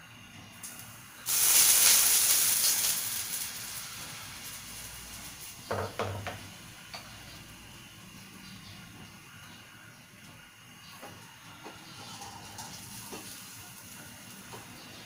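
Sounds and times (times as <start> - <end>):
batter sizzling in hot oil: 0.5 - 15.0.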